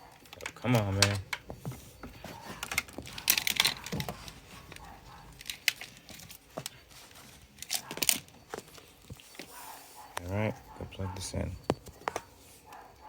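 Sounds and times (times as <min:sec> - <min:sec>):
household things clicking and knocking: 0:00.0 - 0:13.0.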